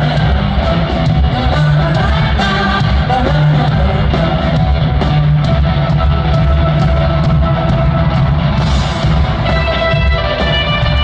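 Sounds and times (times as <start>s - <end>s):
bass: 0.0s - 11.0s
electric guitar: 0.0s - 11.0s
steady drum beat: 0.0s - 11.0s.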